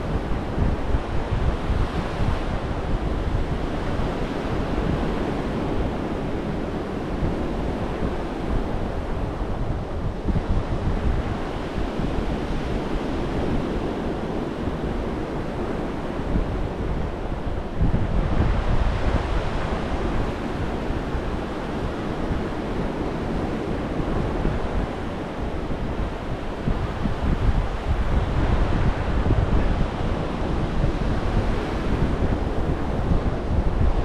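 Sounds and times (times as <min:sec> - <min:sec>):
ocean surf breaking on beach: 0:00.0 - 0:34.0
wind rumbling on microphone: 0:00.0 - 0:34.0.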